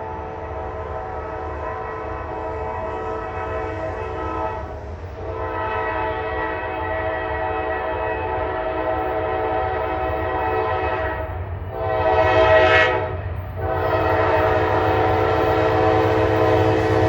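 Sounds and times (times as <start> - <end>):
locomotive air horn chord: 0.0 - 17.0.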